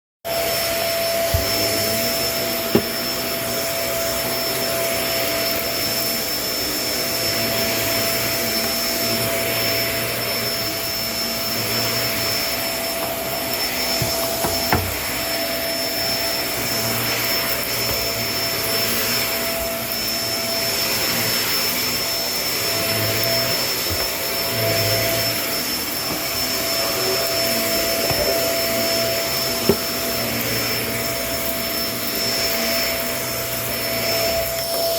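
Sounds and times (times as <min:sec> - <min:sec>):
vacuum cleaner whining drone: 0:00.3 - 0:34.9.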